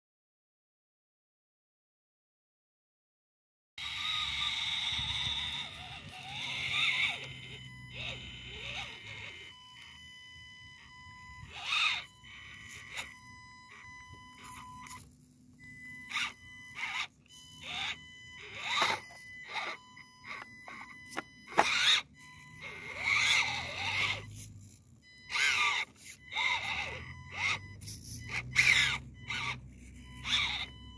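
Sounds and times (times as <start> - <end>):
small electric motor whining: 3.8 - 30.9.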